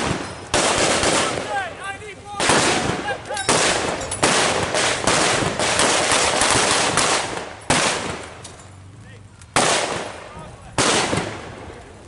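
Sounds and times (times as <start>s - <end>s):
rapid blank gunfire: 0.0s - 1.6s, 2.4s - 8.4s, 9.6s - 11.6s.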